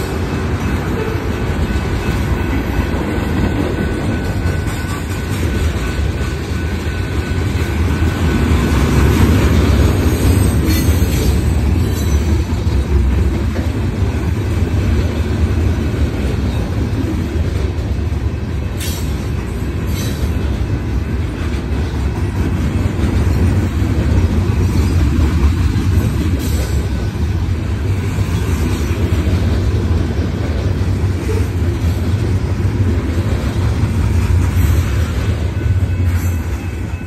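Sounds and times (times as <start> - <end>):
steel wheels rumbling on rail: 0.0 - 37.0.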